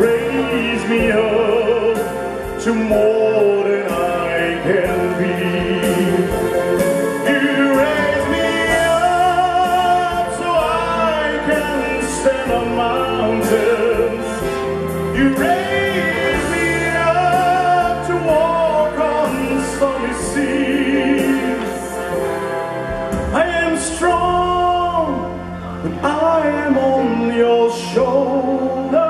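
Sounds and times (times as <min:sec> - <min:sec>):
sustained instrumental accompaniment: 0:00.0 - 0:29.0.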